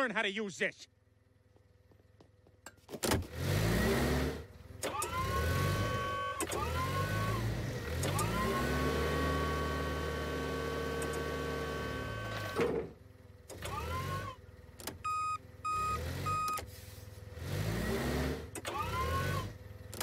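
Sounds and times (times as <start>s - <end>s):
forklift motor hum: 1.0s - 20.0s
forklift motor whining: 3.0s - 20.0s.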